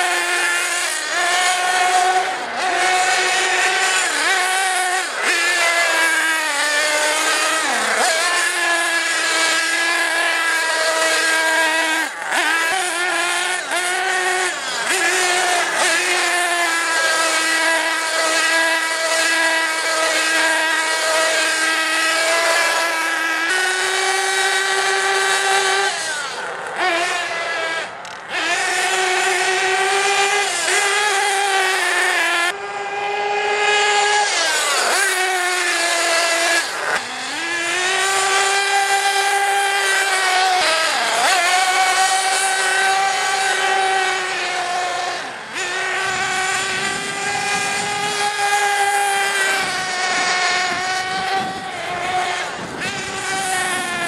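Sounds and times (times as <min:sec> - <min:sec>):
model engine buzzing whine: 0:00.0 - 0:54.0.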